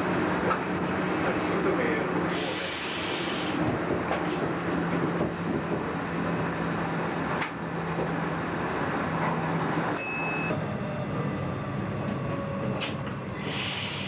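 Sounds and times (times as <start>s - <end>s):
train rolling noise: 0.0s - 14.0s.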